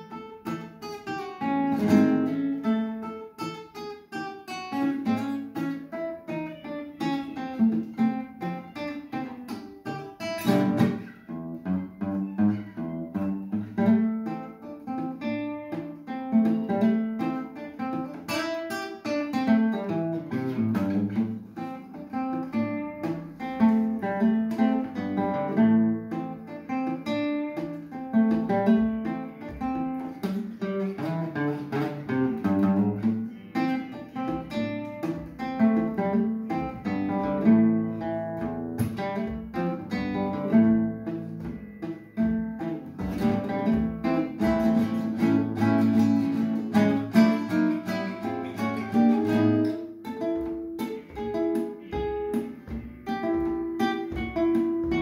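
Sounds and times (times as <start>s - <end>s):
classical guitar fingerstyle: 0.0s - 55.0s.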